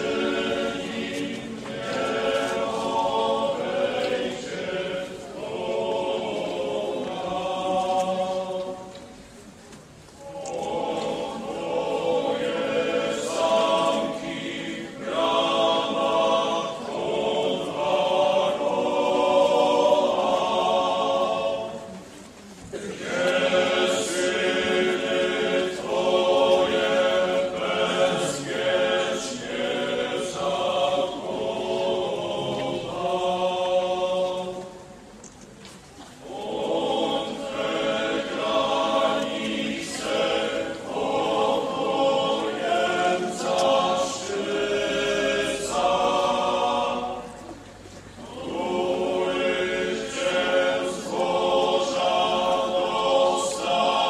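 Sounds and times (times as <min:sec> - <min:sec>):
men's chorus chanting: 0:00.0 - 0:08.9, 0:10.2 - 0:22.0, 0:22.7 - 0:34.8, 0:36.2 - 0:47.6, 0:48.2 - 0:54.0.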